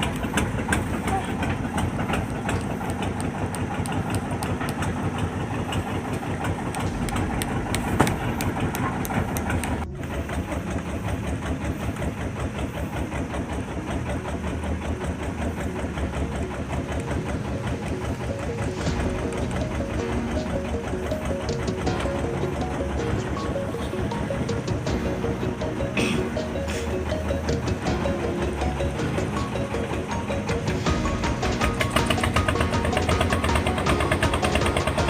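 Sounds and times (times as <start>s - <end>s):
speedboat engine running: 0.0s - 35.0s.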